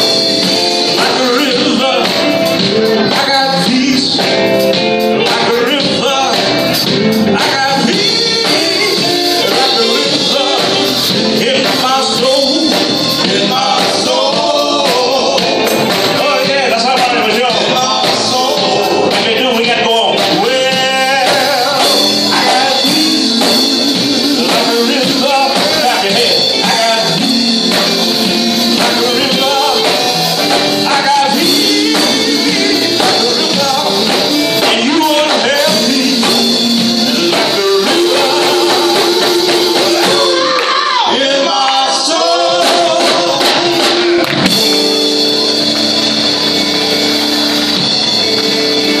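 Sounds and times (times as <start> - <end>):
gospel singing with band: 0.0 - 49.0
percussion beat: 0.0 - 49.0.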